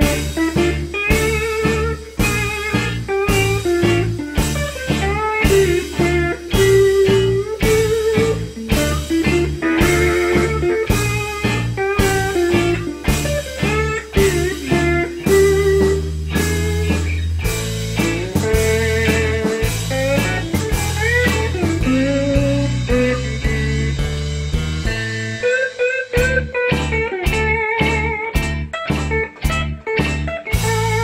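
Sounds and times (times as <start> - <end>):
bass line: 0.0 - 31.0
slide electric guitar melody: 0.0 - 31.0.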